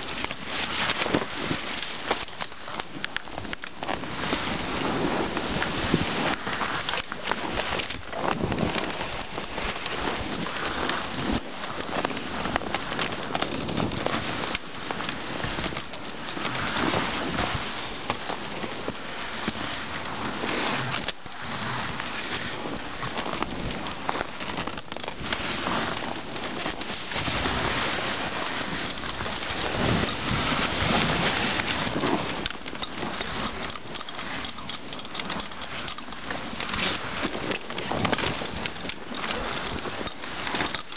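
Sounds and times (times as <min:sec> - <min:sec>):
sled runners scraping on snow: 0:00.0 - 0:40.9.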